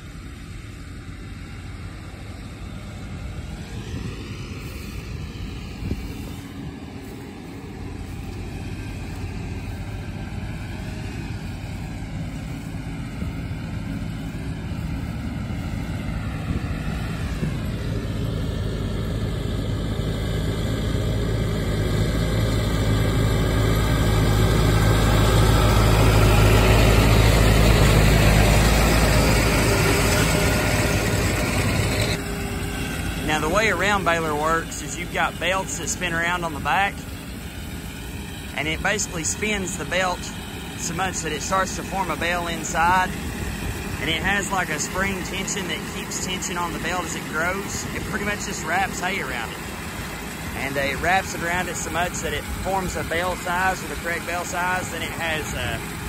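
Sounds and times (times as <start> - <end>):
round baler running: 0.0 - 56.0
tractor diesel engine: 0.0 - 56.0.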